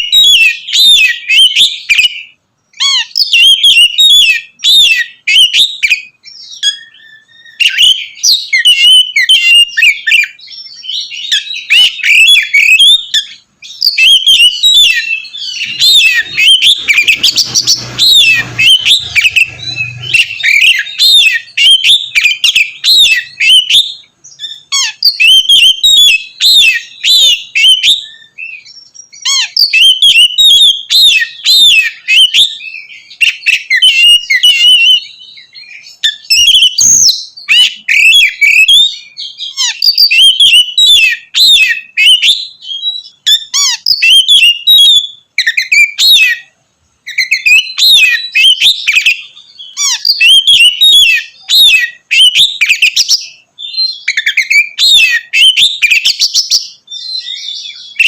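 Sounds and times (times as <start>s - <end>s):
bird singing varied whistles: 0.0s - 58.0s.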